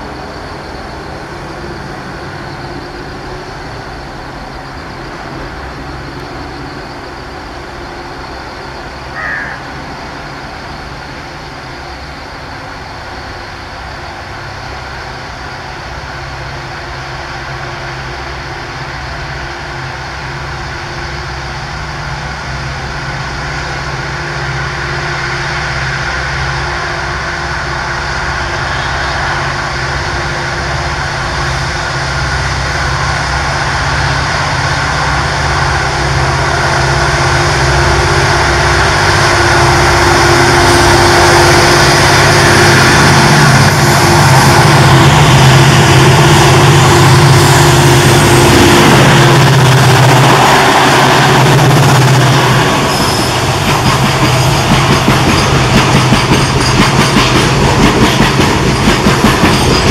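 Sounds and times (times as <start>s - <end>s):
diesel locomotive engines droning: 0.0s - 59.9s.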